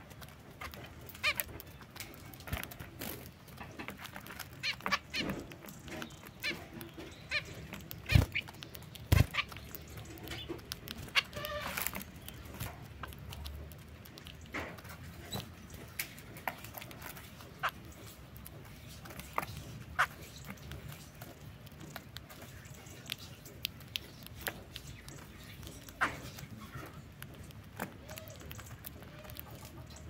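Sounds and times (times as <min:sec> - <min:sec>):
beaks clicking on seed: 0:00.0 - 0:30.0.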